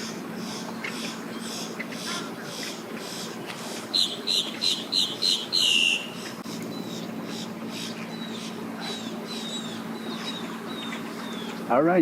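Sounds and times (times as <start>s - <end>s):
short sharp bird calls: 0.4s - 11.6s.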